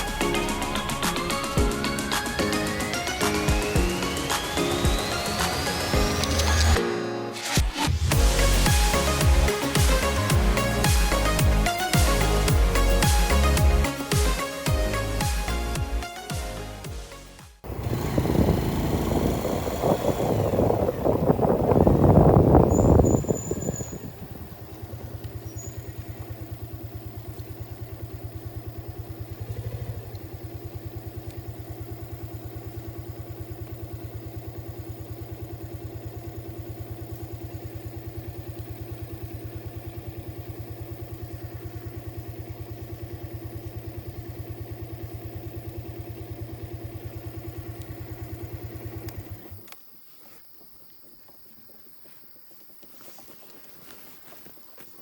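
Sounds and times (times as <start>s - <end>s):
motorcycle engine idling: 0.0s - 6.8s, 8.1s - 16.9s, 17.6s - 49.7s.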